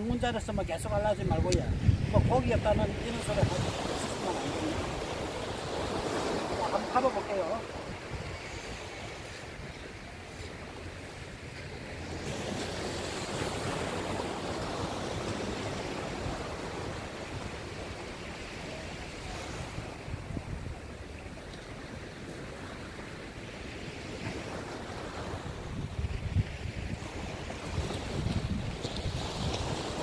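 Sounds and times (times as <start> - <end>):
small surf breaking on beach: 0.0 - 30.0.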